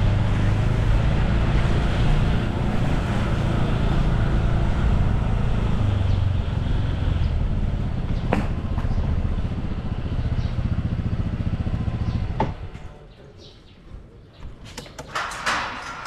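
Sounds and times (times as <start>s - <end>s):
motorbike engine drone: 0.0s - 13.1s
road noise: 0.0s - 16.0s.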